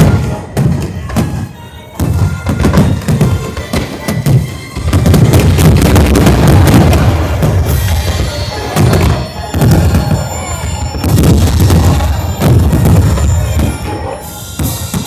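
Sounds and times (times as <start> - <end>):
fireworks booming: 0.0 - 15.0
fireworks crackling: 0.0 - 15.0
music with drum beat: 2.0 - 15.0.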